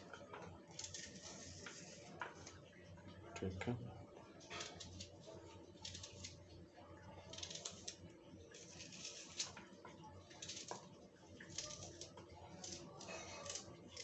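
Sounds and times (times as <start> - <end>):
onion skins crackling and rustling: 0.2 - 2.6, 4.4 - 6.6, 7.2 - 14.0.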